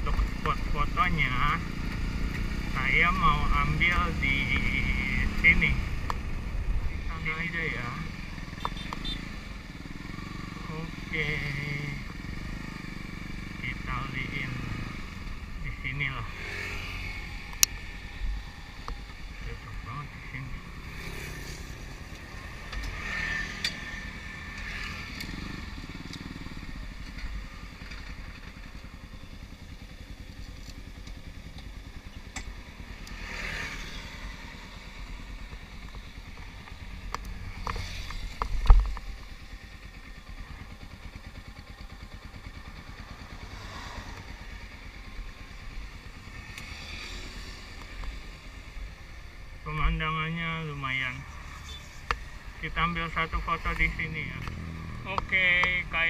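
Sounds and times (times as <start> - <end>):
motorcycle engine idling: 0.1 - 22.6, 23.7 - 56.0.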